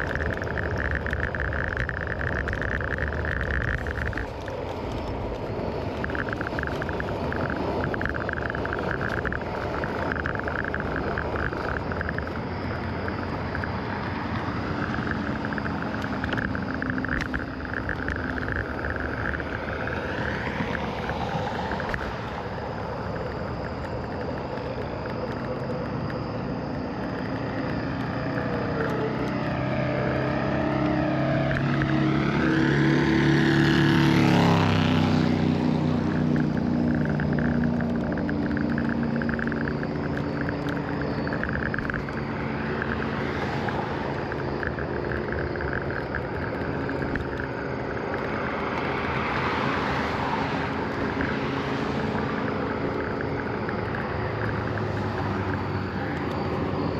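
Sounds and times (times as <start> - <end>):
road noise: 0.0 - 56.9
steady whine: 0.0 - 56.9
wind rushing over microphone: 0.0 - 56.9.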